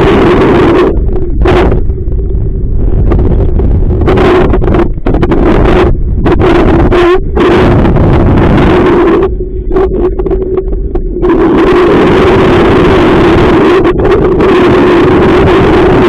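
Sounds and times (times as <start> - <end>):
boat motor hum: 0.0 - 16.0
wind buffeting microphone: 0.0 - 16.0.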